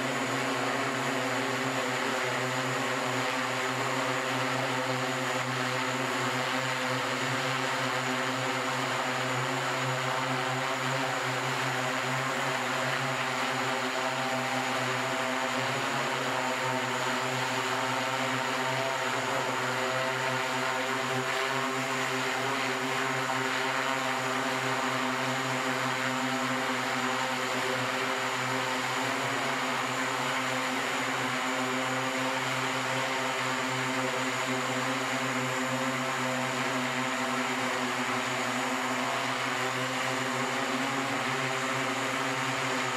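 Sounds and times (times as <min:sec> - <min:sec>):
electric aircraft propellers humming: 0:00.0 - 0:42.9.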